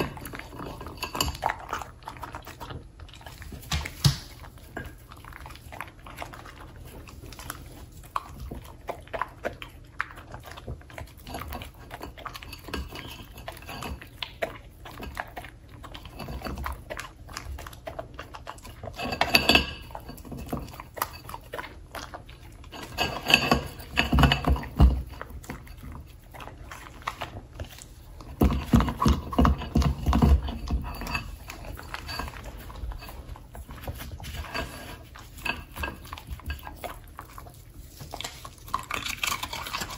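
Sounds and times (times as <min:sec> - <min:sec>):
dog licking and chewing: 0:00.0 - 0:39.9.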